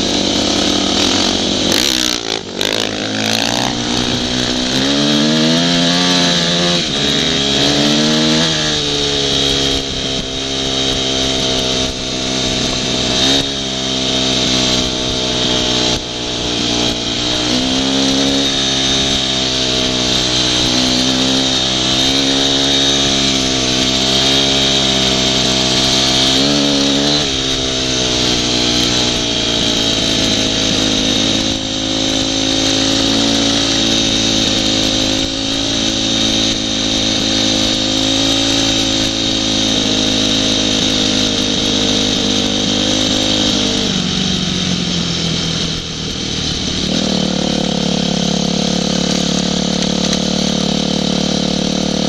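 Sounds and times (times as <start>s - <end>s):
dirt bike engine revving: 0.0s - 52.0s
road and wind noise: 0.0s - 52.0s.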